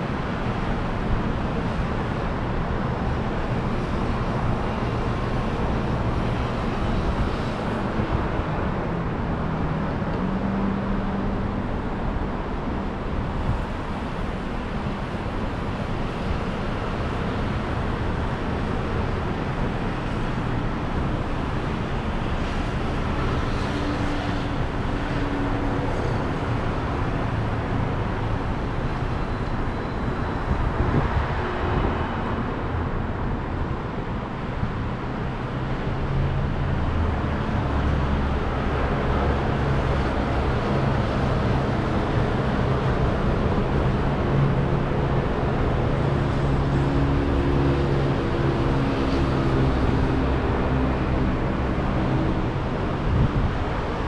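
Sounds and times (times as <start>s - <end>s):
passing vehicles: 0.0s - 54.0s.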